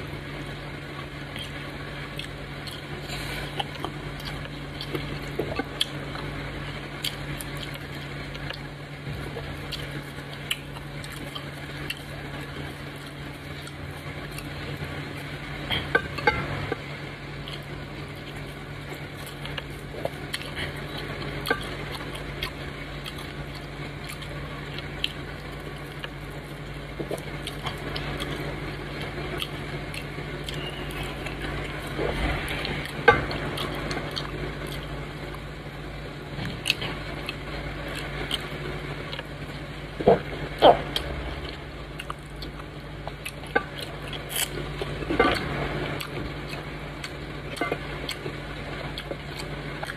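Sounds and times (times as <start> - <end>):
dough squishing: 0.0 - 49.9
low hum: 0.0 - 49.9
chewing: 0.4 - 49.9.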